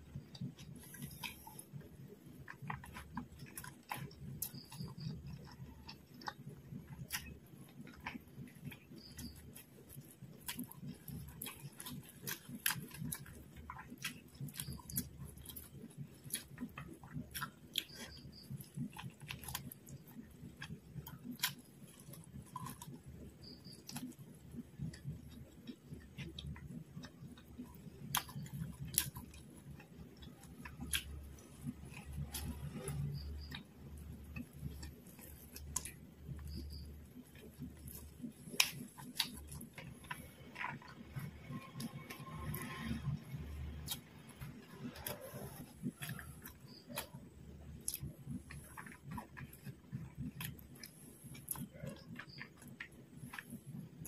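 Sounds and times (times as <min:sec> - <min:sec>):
faint low hum: 0:00.0 - 0:54.0
person chewing food: 0:00.0 - 0:54.0.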